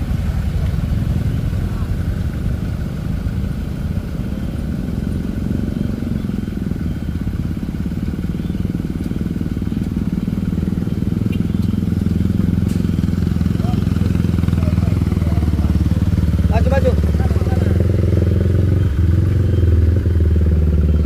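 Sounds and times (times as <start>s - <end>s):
motorcycles riding past: 0.0s - 21.0s
road traffic engine rumble: 0.0s - 21.0s.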